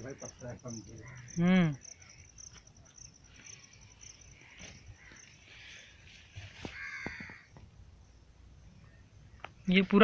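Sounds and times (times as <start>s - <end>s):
distant bird calls: 0.0s - 10.0s
insect chirping: 0.0s - 10.0s.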